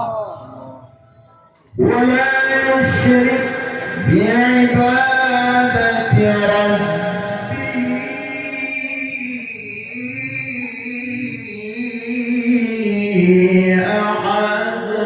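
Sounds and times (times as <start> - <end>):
man reciting melodically: 1.7 - 15.0.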